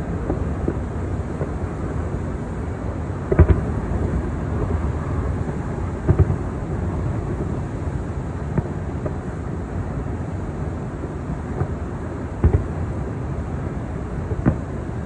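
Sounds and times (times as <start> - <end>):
distant fireworks booming: 0.0 - 2.4, 3.0 - 9.4, 11.4 - 15.0
wind rumble on microphone: 0.0 - 15.0.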